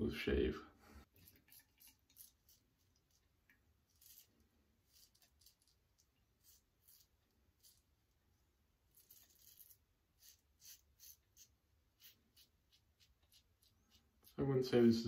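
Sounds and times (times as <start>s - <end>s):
razor scraping stubble: 1.2s - 8.0s, 8.9s - 14.7s.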